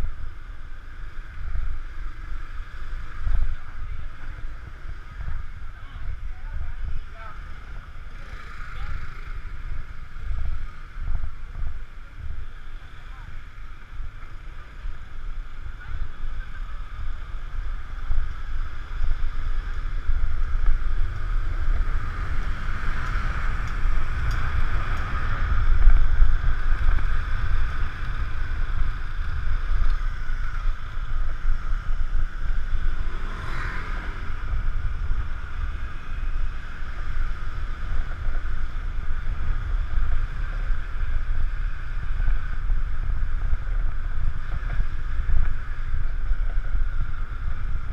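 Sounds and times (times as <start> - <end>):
wind rumbling on microphone: 0.0 - 47.9.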